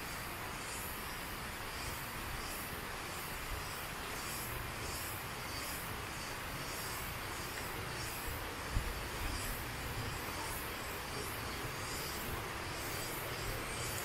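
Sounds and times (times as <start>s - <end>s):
insects pulsing: 0.0s - 14.0s.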